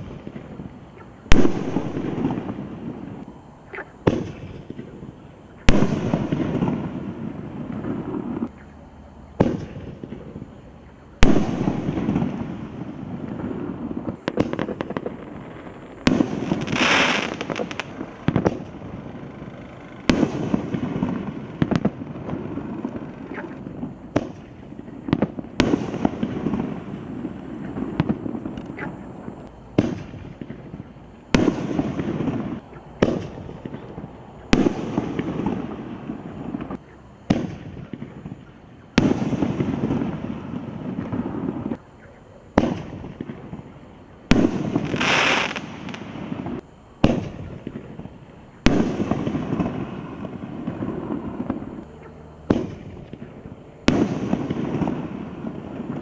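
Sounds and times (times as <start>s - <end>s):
fireworks exploding: 0.0s - 56.0s
fireworks hiss: 0.0s - 56.0s.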